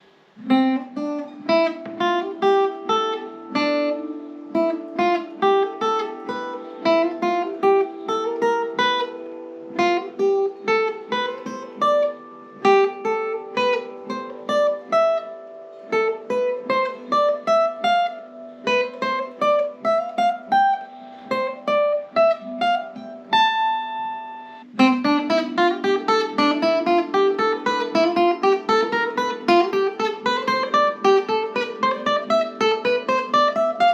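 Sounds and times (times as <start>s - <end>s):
fingerstyle acoustic guitar: 0.0s - 33.9s.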